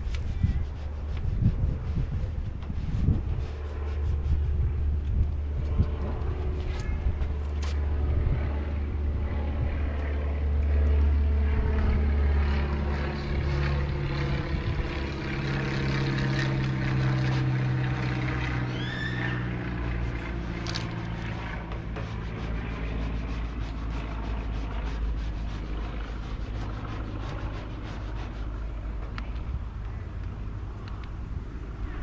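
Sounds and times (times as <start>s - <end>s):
propeller airplane engine drone: 0.0s - 32.0s.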